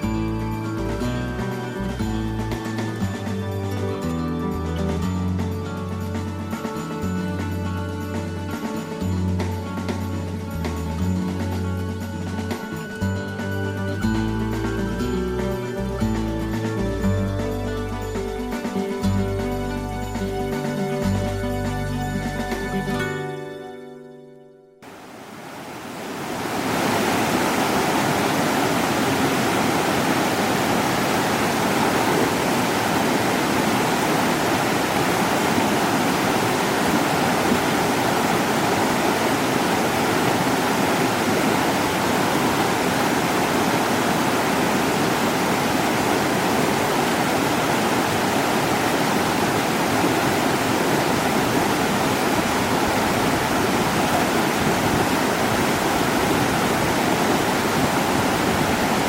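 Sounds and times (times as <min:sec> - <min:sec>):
stream running over rocks: 0:00.0 - 0:22.7, 0:24.8 - 0:59.0.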